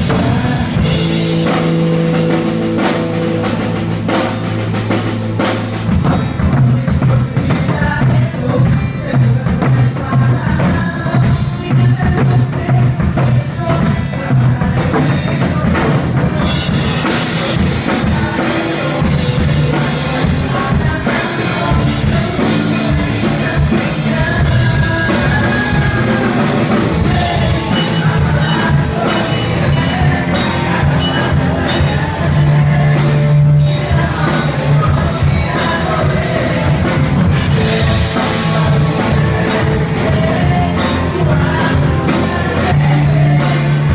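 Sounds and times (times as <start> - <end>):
live worship band playing: 0.0 - 43.9
person singing: 0.0 - 43.9.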